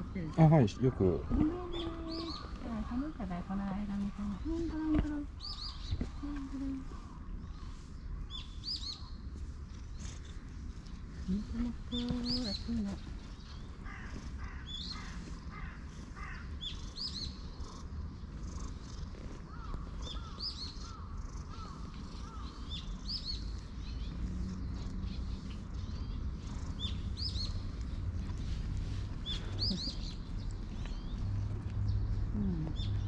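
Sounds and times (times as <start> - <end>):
cat purring: 0.0 - 33.0
wild birds chirping: 0.0 - 33.0.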